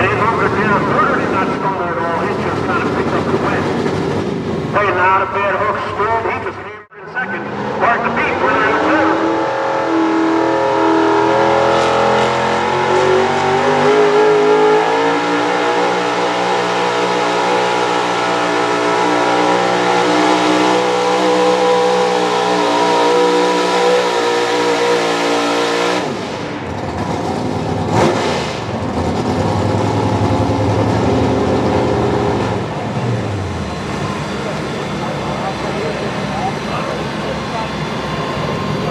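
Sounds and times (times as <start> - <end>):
truck engine at high revs: 0.0 - 38.9.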